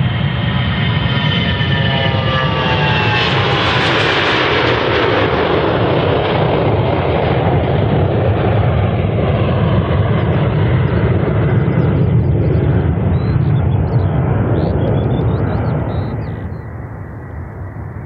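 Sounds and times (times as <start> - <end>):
jet airliner takeoff roar: 0.0 - 18.0.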